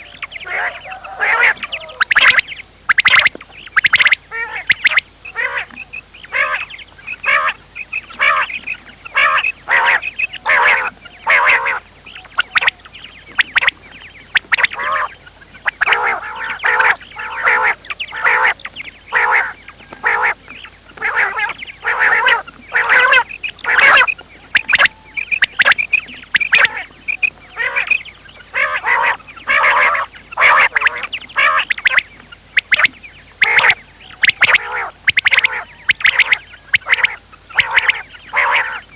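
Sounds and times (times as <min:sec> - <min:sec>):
birds calling: 0:00.0 - 0:38.9.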